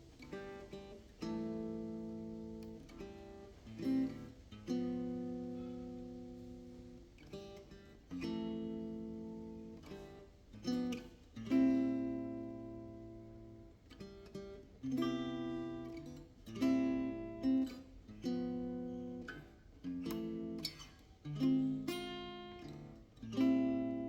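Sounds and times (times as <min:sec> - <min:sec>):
acoustic guitar strumming slow chords: 0:00.0 - 0:24.0.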